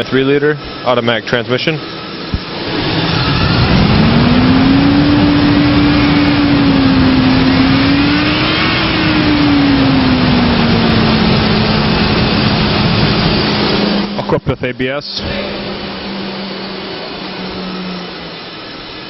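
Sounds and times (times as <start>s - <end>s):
truck engine revving: 2.5s - 18.7s.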